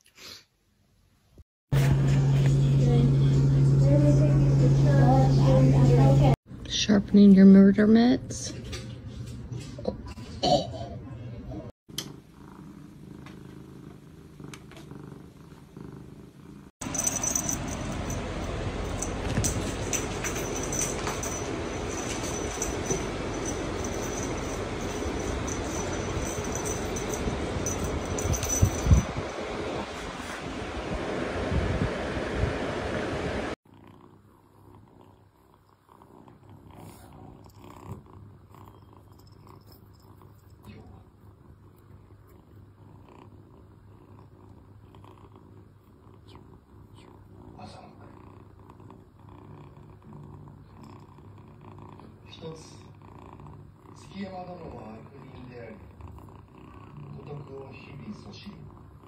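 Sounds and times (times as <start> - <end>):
cat purring: 2.8 - 6.9, 11.2 - 30.4, 33.7 - 59.0.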